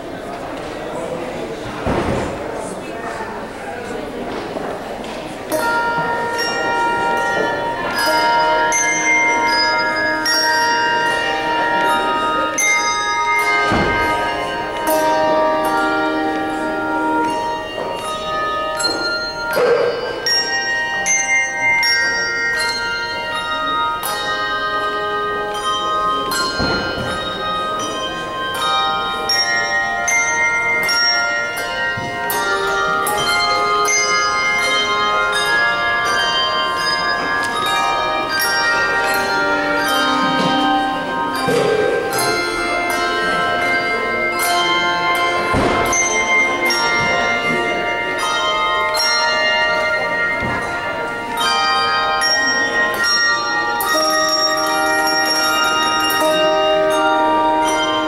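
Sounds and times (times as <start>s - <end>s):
handbells ringing: 0.0s - 58.0s.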